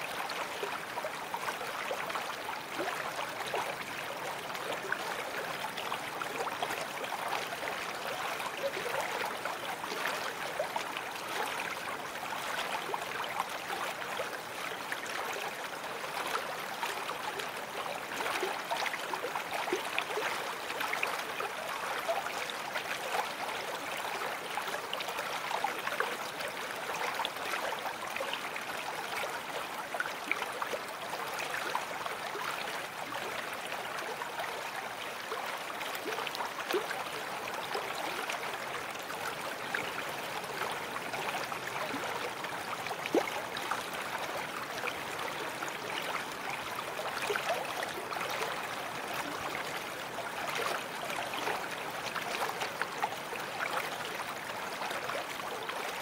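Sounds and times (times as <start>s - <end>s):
babbling brook: 0.0s - 56.0s.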